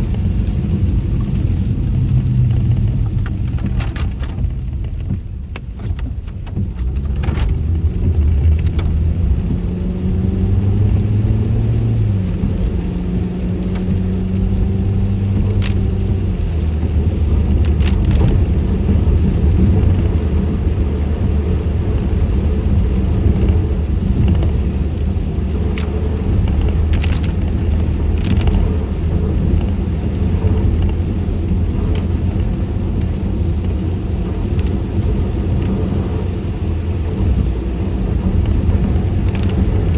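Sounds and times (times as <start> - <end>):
car interior road noise: 0.0 - 39.9.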